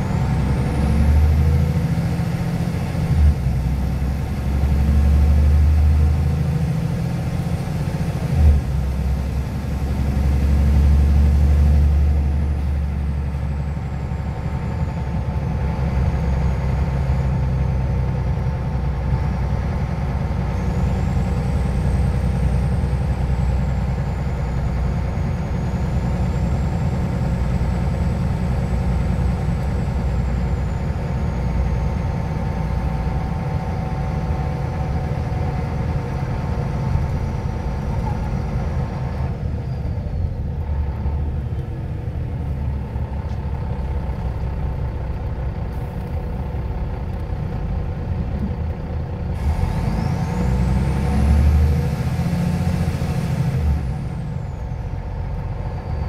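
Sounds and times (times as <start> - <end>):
bus engine low drone: 0.0 - 56.0.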